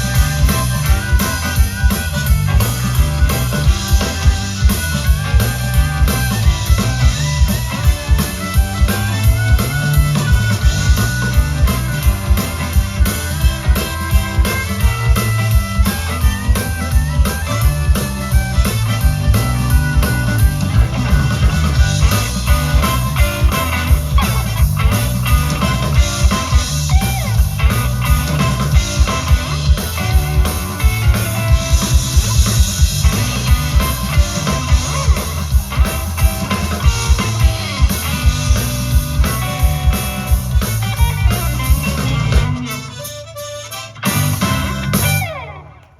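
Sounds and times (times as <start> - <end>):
rock music with drums and guitar: 0.0 - 45.9.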